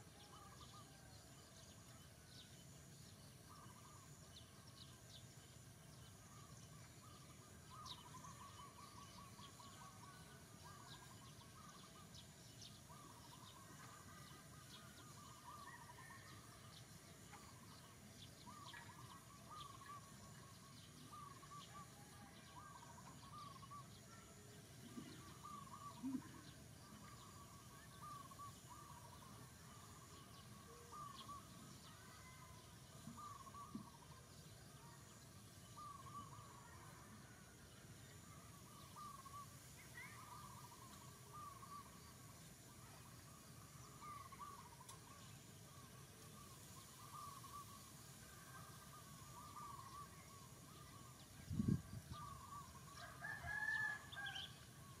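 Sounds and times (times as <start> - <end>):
faint birds chirping: 0.0 - 55.0
low background hiss: 0.0 - 55.0.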